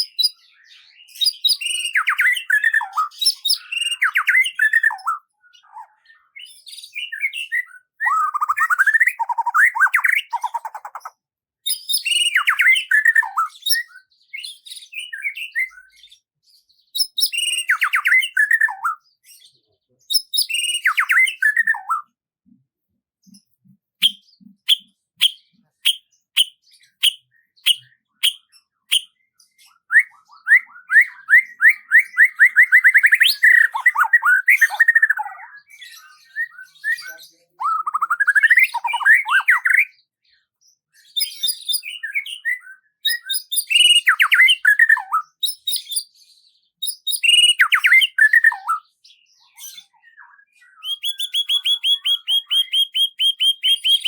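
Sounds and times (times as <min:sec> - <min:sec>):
songbird singing: 0:00.0 - 0:22.6, 0:23.2 - 0:54.0.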